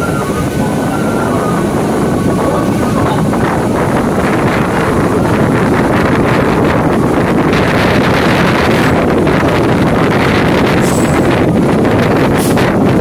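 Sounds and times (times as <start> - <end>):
train rumbling: 0.0 - 13.0
wind buffeting the microphone: 0.0 - 13.0.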